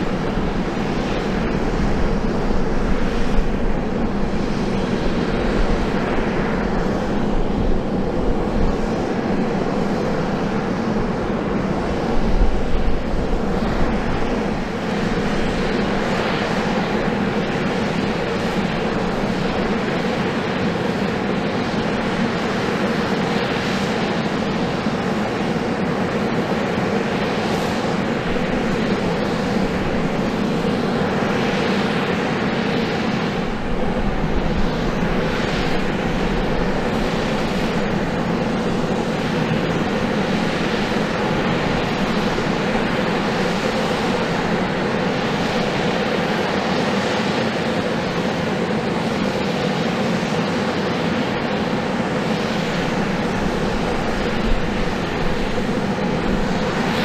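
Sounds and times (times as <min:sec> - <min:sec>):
aircraft turbine running: 0:00.0 - 0:57.0.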